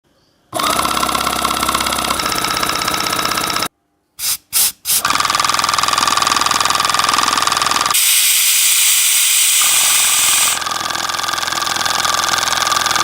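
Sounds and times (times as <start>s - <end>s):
air compressor pulsing: 0.6s - 13.0s.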